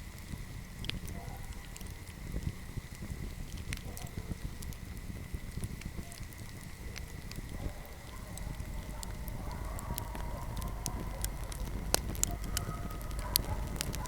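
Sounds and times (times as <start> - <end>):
fire flames rumbling: 0.0 - 14.0
fire popping: 0.0 - 14.0.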